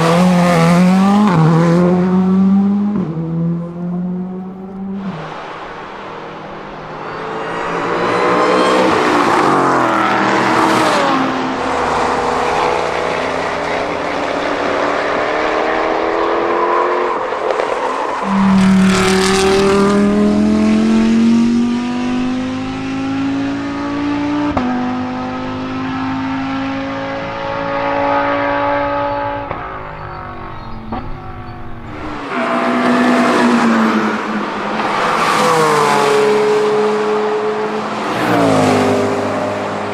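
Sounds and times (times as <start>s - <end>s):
car engines accelerating hard: 0.0s - 39.9s
car passing by: 0.0s - 39.9s.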